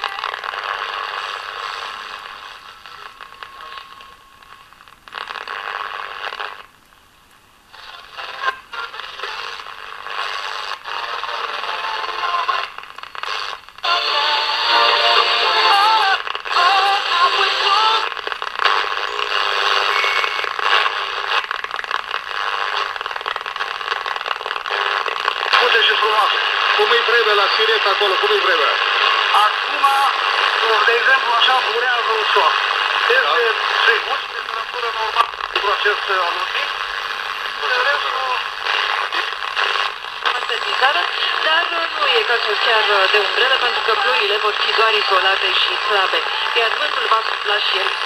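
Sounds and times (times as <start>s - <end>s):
singing on radio: 0.0s - 4.3s, 7.8s - 21.6s, 24.6s - 48.0s
radio tuning noise: 0.0s - 6.8s, 7.7s - 48.0s.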